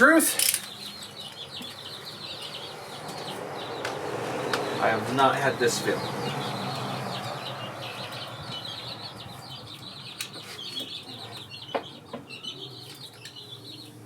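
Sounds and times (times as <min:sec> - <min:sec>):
small birds twittering: 0:00.0 - 0:14.0.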